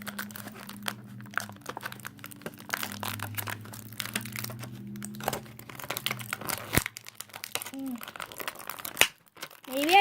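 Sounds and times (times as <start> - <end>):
toy packaging crinkling and clicking: 0.0 - 10.0.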